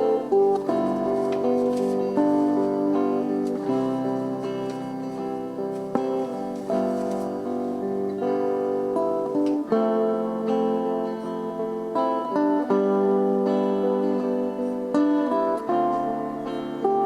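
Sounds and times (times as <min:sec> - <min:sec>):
plucked string chords: 0:00.0 - 0:17.0.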